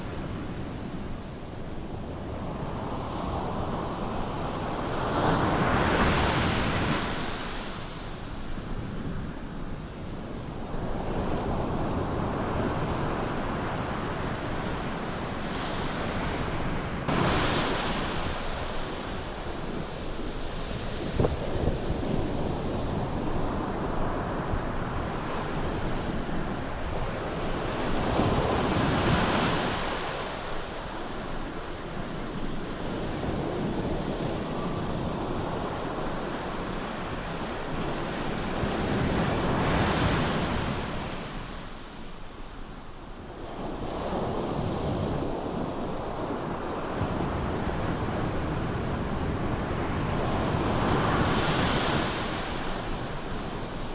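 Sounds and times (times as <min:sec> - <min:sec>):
waves breaking on beach: 0:10.6 - 0:53.9.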